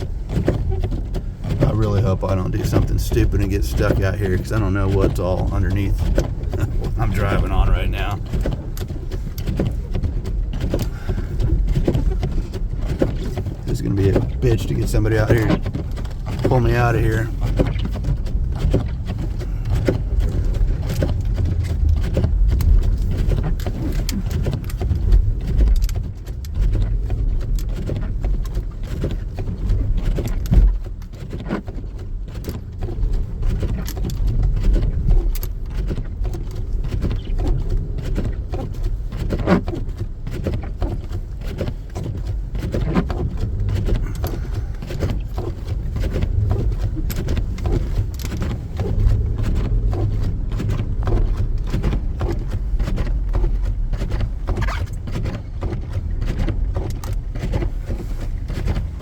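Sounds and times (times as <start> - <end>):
vehicle body knocks and clatters: 0.0 - 59.0
vehicle engine low rumble: 0.0 - 59.0.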